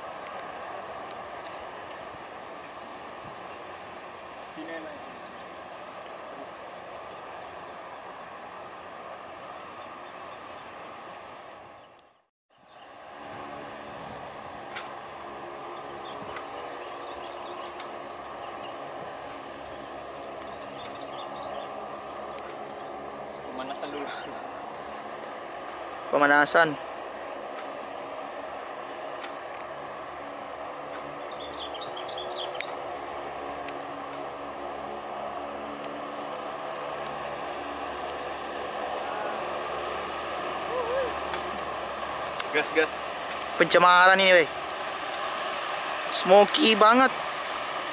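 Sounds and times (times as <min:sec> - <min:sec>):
turboprop engines droning: 0:00.0 - 0:47.9.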